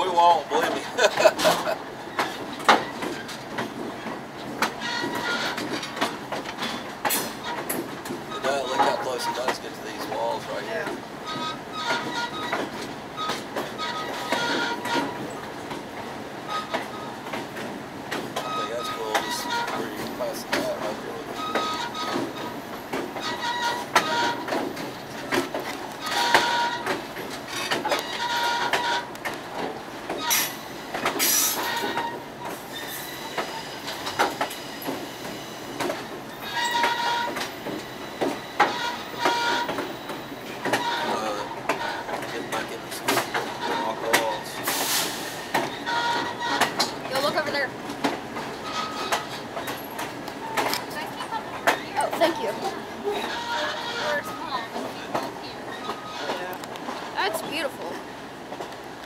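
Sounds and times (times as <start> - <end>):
wheels and couplers clanking: 0.0 - 57.9
train car rolling rumble: 0.0 - 59.0.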